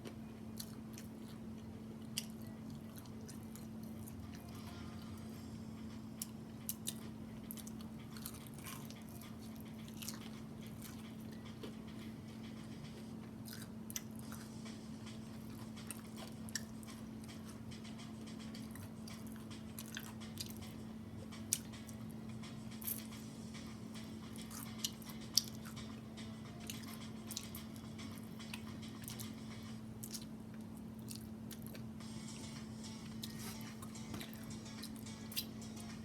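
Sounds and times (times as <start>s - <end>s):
person chewing food: 0.0s - 5.2s, 6.2s - 32.0s, 32.8s - 36.0s
steady low hum: 0.0s - 36.0s.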